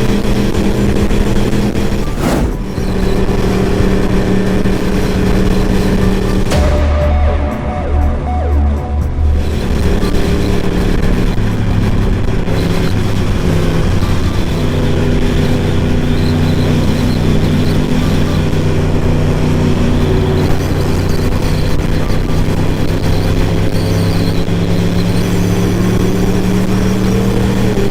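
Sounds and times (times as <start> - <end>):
constant rushing noise: 0.0 - 27.9.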